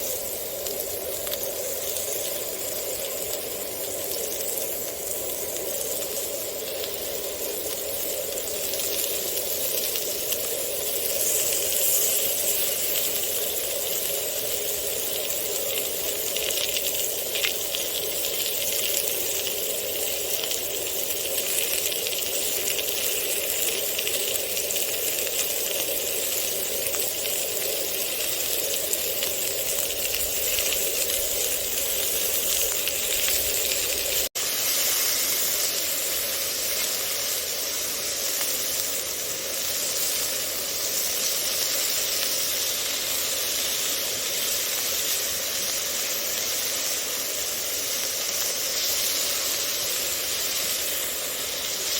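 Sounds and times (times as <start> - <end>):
food frying in hot oil: 0.0 - 51.9.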